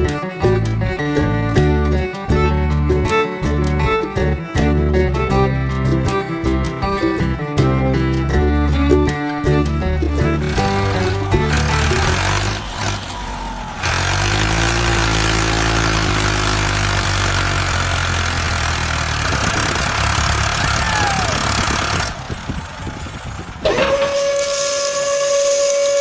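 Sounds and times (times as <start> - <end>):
engine running with rattling: 0.0 - 26.0.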